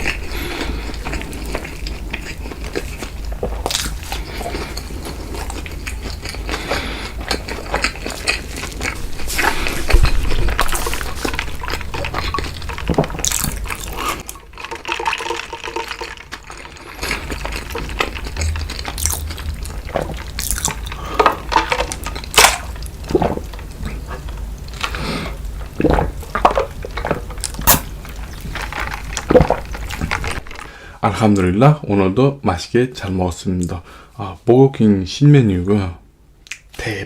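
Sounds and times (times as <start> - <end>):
wet mouth noises and chewing: 0.0 - 30.6.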